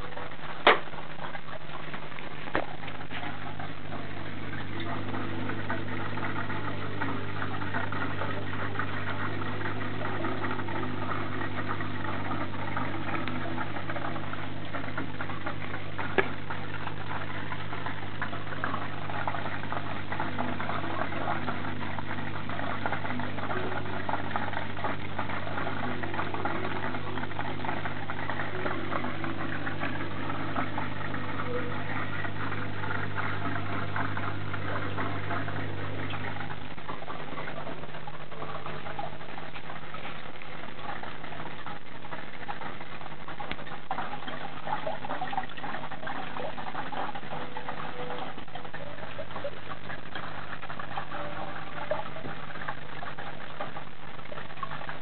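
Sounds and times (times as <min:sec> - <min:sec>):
aquarium pump humming: 0:00.0 - 0:55.0.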